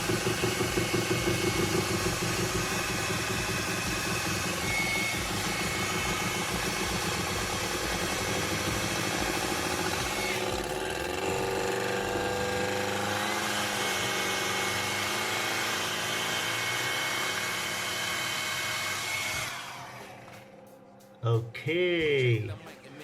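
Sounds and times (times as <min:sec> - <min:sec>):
hair dryer running: 0:00.0 - 0:20.8.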